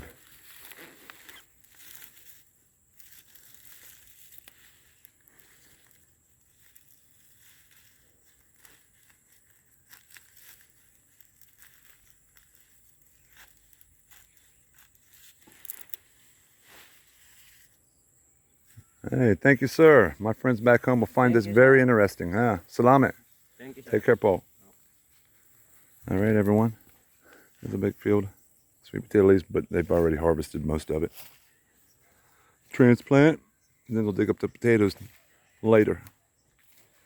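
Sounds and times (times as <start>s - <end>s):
leaves and grass rustling: 0.0s - 37.0s.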